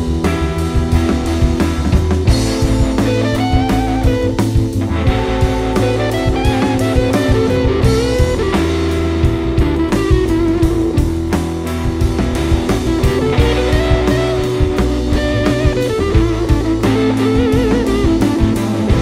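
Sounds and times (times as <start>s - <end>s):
blues-rock band playing: 0.0s - 19.0s
lead guitar bending notes: 0.0s - 19.0s.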